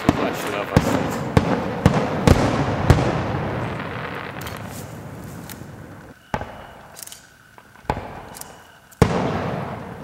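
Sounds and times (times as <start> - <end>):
firework shell bursts: 0.0 - 10.0.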